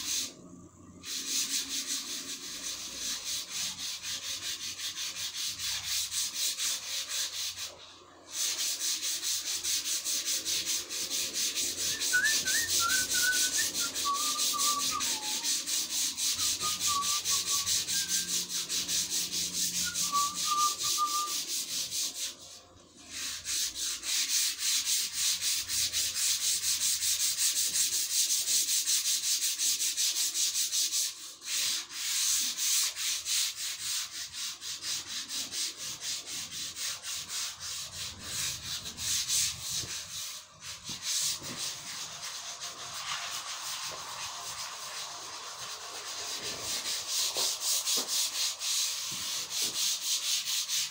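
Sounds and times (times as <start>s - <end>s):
sandpaper rubbing wood: 0.0s - 50.9s.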